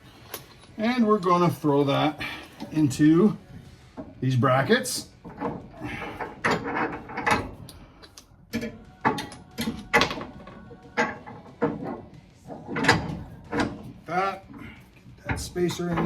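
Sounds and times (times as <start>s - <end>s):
metallic clanks of steel parts: 0.2s - 16.0s.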